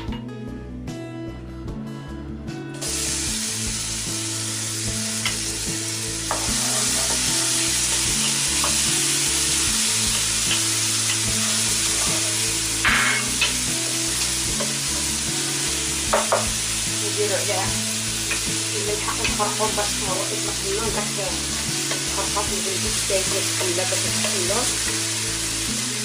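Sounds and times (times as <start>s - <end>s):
faint background music: 0.0s - 26.0s
onion sizzling in hot oil: 2.8s - 26.0s.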